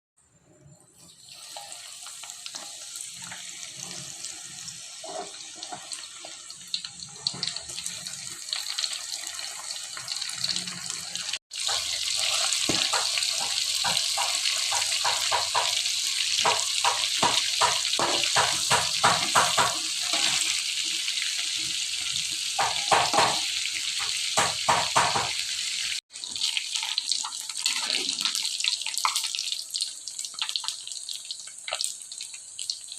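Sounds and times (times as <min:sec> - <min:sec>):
fish frying in hot oil: 0:00.9 - 0:32.9.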